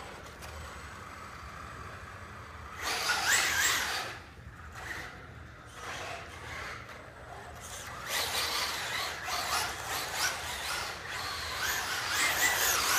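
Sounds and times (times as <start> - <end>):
electric motor whining: 0.0 - 12.9.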